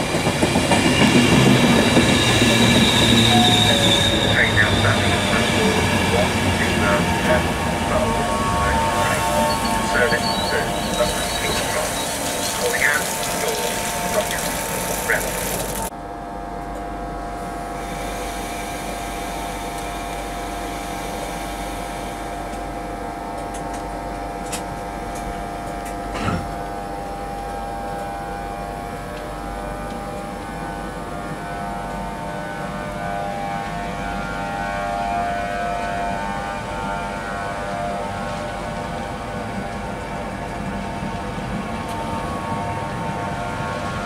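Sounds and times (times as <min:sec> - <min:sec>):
train moving slowly past: 0:00.0 - 0:15.9, 0:16.8 - 0:44.0.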